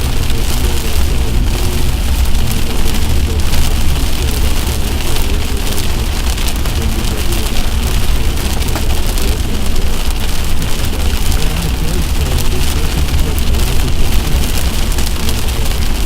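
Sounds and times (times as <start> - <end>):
heavy rain on a vehicle: 0.0 - 16.0.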